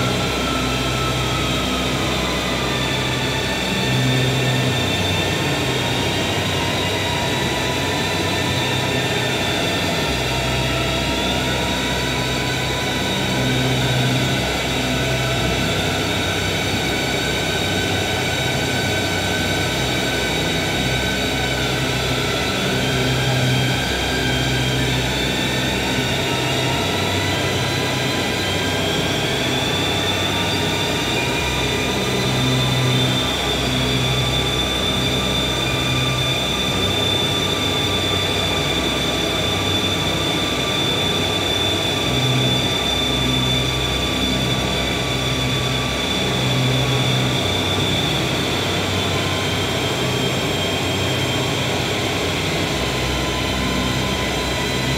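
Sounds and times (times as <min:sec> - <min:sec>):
drone music with bowed violin: 0:00.0 - 0:54.9.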